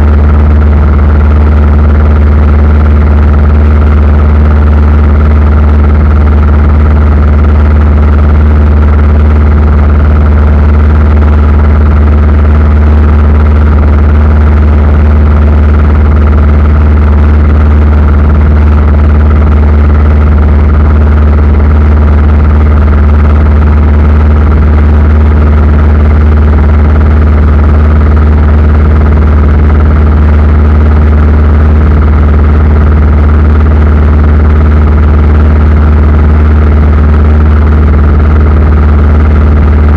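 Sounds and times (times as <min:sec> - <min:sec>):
aircraft engine drone in cabin: 0:00.0 - 0:39.9.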